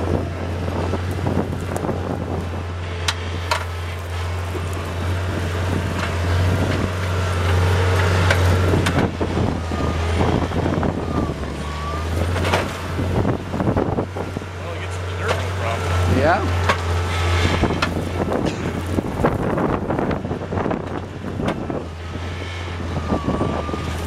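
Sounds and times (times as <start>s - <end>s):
skid steer engine under load: 0.0s - 24.0s.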